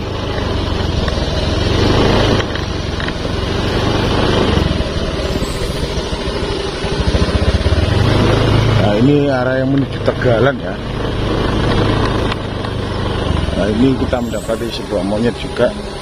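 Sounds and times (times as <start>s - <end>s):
rushing noise: 0.0s - 9.5s, 10.1s - 16.0s
motorcycle engine running: 0.0s - 16.0s.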